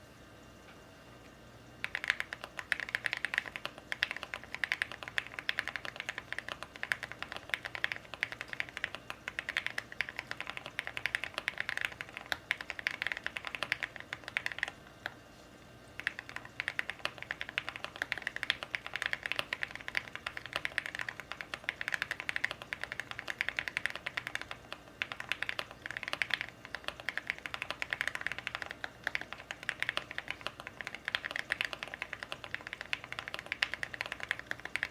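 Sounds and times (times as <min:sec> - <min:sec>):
mechanical keyboard typing: 0:01.8 - 0:15.2, 0:16.0 - 0:34.9.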